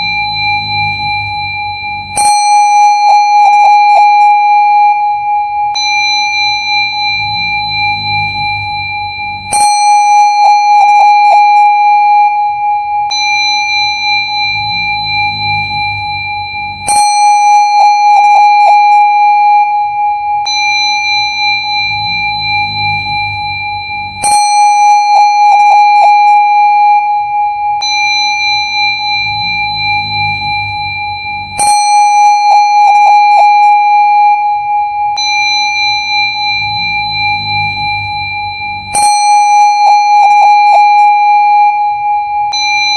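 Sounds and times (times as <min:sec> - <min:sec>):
sustained ringing tone: 0:00.0 - 0:42.9.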